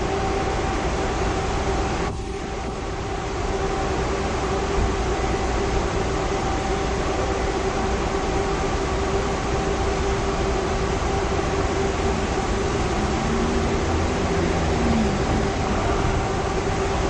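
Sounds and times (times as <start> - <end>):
train rumbling with hum: 0.0 - 17.0.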